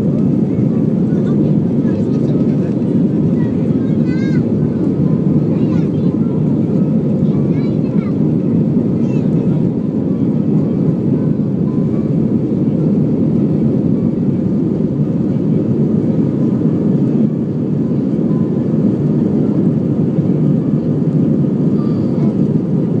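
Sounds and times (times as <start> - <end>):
jet engine cabin roar: 0.0 - 23.0.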